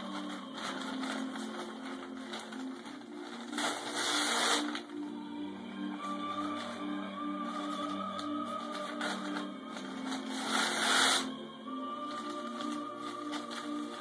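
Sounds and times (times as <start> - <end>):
newspaper tearing: 0.0 - 5.2, 6.0 - 11.4, 12.0 - 14.0
paper rustling: 0.0 - 5.2, 5.9 - 11.3, 11.9 - 14.0
background music with held notes: 0.0 - 14.0.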